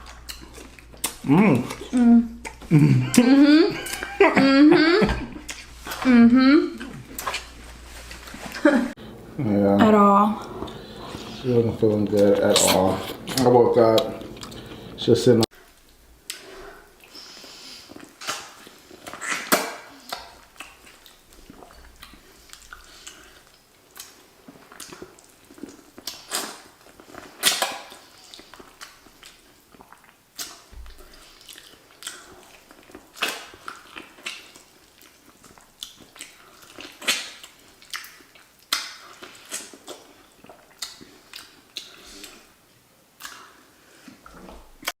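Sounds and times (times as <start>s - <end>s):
people chewing with wet smacks: 0.0s - 8.9s, 10.4s - 45.0s.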